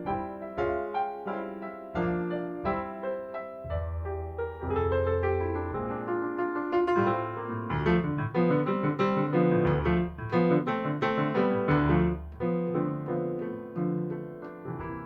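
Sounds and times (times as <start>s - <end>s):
jazz piano chords: 0.0s - 15.0s.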